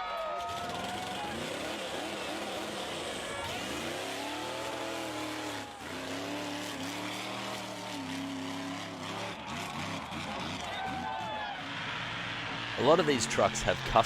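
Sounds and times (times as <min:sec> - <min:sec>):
truck engine revving: 0:00.4 - 0:14.0.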